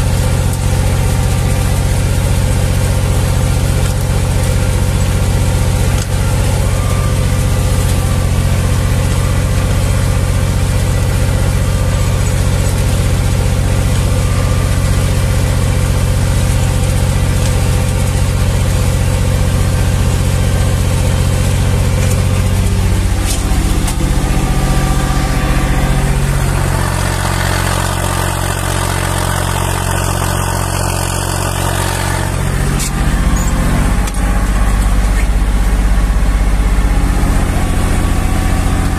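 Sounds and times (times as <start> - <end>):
tractor diesel engine under load: 0.0 - 38.9.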